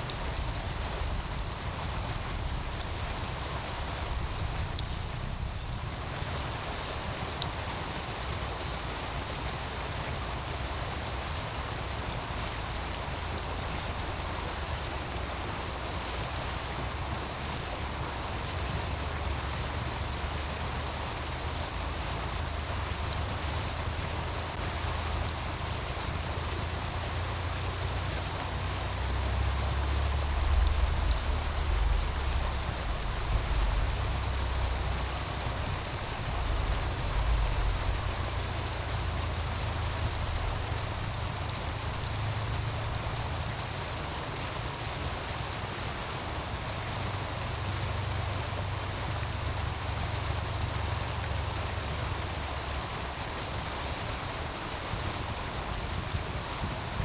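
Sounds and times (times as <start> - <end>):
campfire crackling and popping: 0.0 - 57.0
stream water rushing: 0.0 - 57.0
wind rumble on microphone: 0.0 - 57.0.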